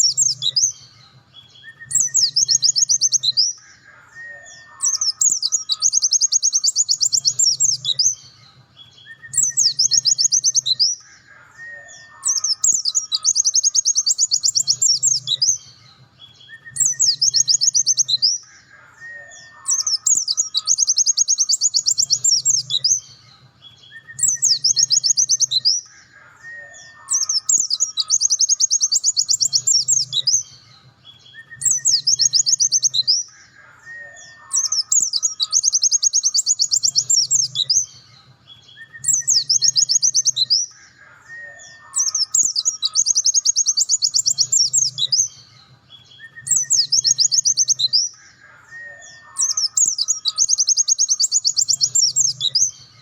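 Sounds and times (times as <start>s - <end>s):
bird singing high trills: 0.0s - 53.0s.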